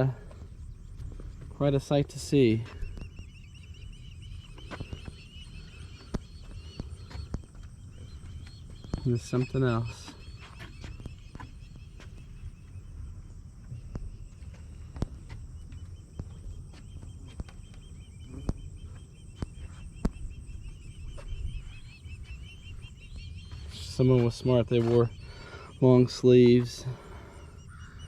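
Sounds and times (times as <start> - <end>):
rapid animal chirp: 0.0 - 28.0.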